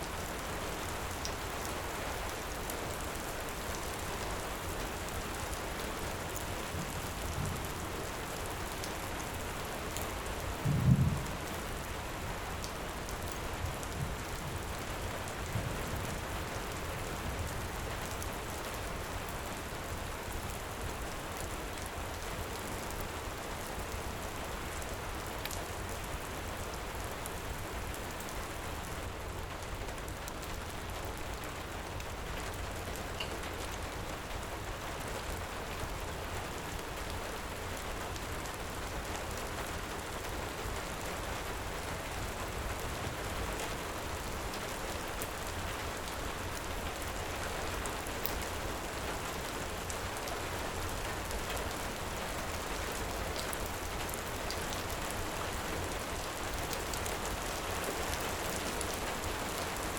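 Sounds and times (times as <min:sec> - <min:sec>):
faint wood fire crackles: 0:00.0 - 0:59.9
heavy rain falling: 0:00.0 - 0:59.9.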